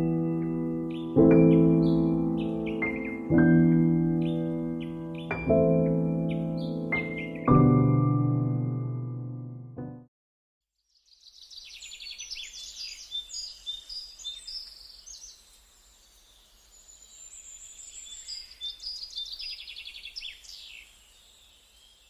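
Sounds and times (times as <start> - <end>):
birds chirping and trilling: 0.0 - 7.9, 10.9 - 22.0.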